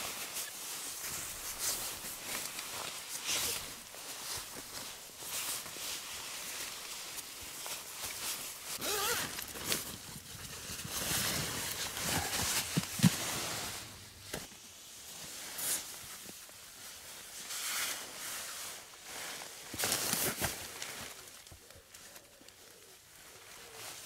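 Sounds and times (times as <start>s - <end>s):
rustling in sleeping bag: 0.0s - 24.0s.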